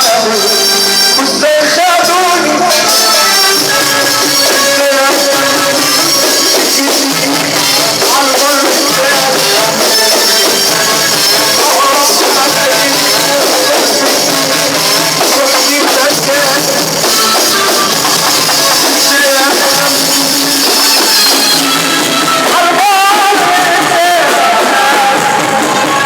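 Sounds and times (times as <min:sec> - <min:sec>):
ornamented vocal melody: 0:00.0 - 0:26.0
hand percussion: 0:02.3 - 0:26.0.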